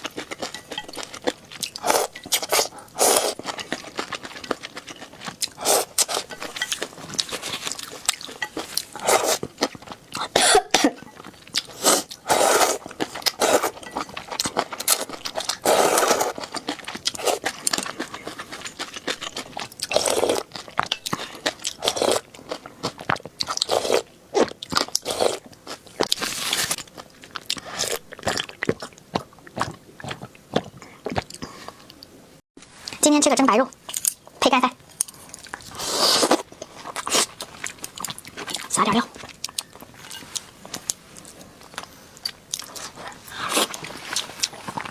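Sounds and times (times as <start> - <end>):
crunching and chewing: 0.0 - 10.4, 11.2 - 31.9, 34.9 - 44.9.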